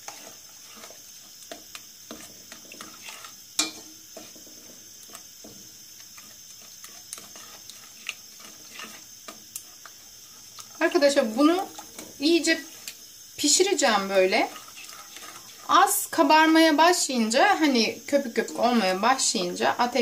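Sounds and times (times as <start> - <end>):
utensil scraping metal pot: 0.0 - 17.0, 18.1 - 20.0.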